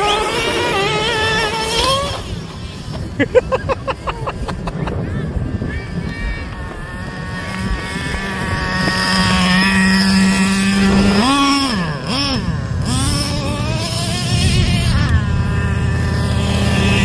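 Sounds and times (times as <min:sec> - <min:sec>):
small engine revving high: 0:00.0 - 0:17.0.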